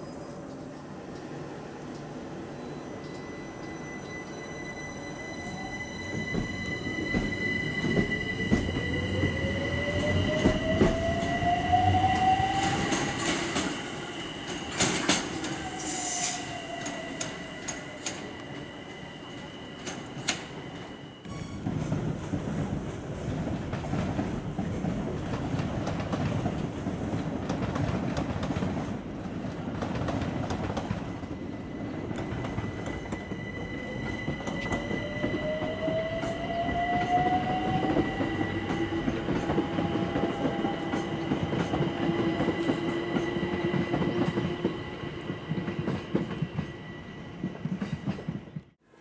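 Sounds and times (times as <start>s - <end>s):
electric train rumbling on rails: 0.0s - 49.0s.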